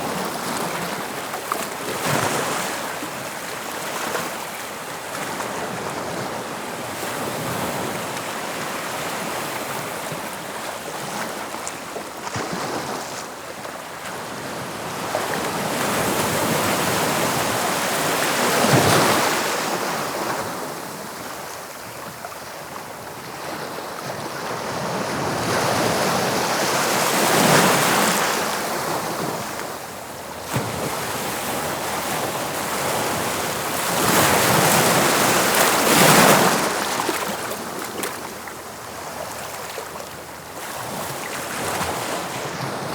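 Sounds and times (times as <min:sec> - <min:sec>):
waves breaking on shore: 0:00.0 - 0:42.9.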